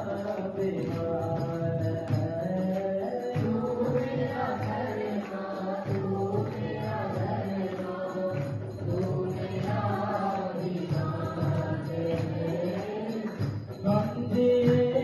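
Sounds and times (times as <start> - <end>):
group chanting devotional song: 0.0 - 15.0.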